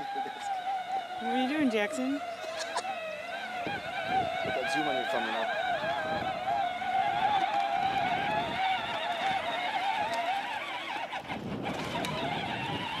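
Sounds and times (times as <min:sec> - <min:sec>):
electric toy vehicle motor whining: 0:00.0 - 0:13.0.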